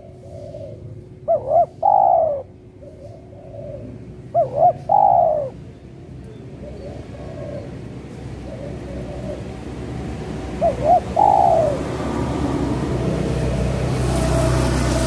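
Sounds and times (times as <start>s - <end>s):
doves cooing: 0.0s - 5.7s, 6.3s - 13.5s.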